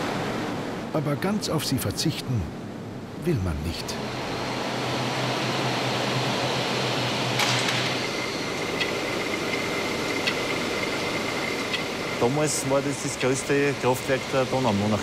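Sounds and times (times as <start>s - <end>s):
steady high whine: 0.0s - 15.0s.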